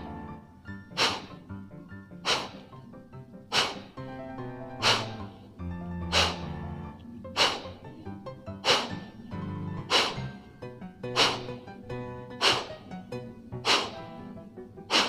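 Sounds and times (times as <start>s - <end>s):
background music with sustained notes: 0.0s - 15.0s
forceful nasal exhalations: 0.9s - 1.6s, 2.2s - 4.0s, 4.8s - 15.0s.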